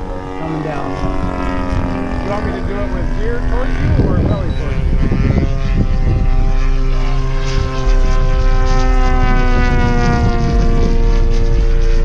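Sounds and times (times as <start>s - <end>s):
model airplane engine: 0.0s - 12.0s.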